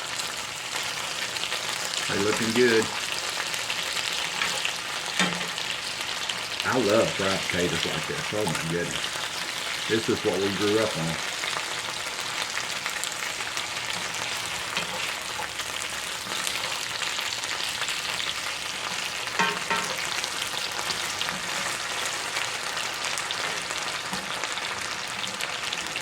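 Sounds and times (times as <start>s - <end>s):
potatoes sizzling in a skillet: 0.0s - 26.0s.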